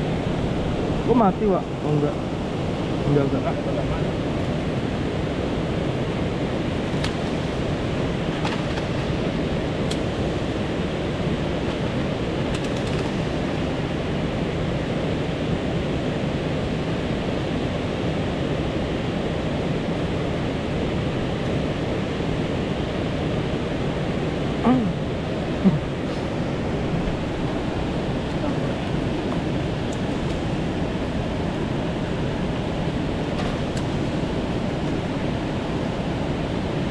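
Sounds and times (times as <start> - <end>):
river water rushing: 0.0 - 12.5, 13.1 - 36.9.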